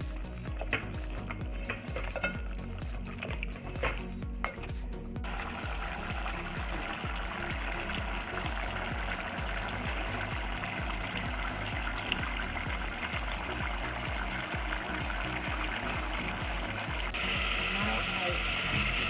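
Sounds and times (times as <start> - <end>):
background music with low beat: 0.0 - 19.0
stew bubbling: 0.0 - 19.0.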